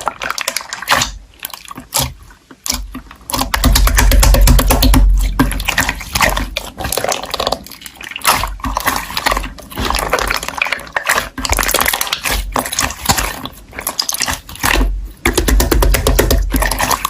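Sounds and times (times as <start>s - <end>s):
slime squelching: 0.0s - 17.0s.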